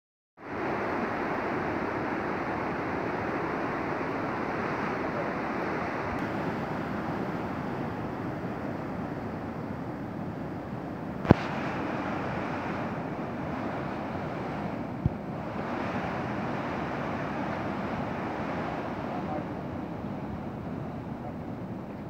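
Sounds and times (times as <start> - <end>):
waterfall roaring: 0.5 - 22.0.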